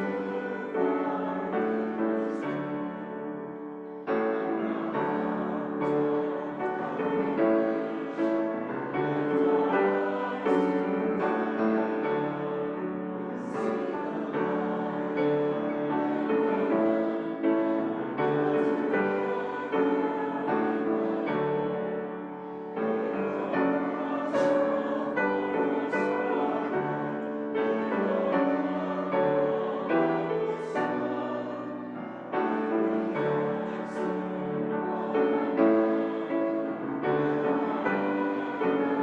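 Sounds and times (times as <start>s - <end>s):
voices singing: 0.0s - 3.4s, 4.1s - 39.0s
piano playing a hymn: 0.0s - 39.0s.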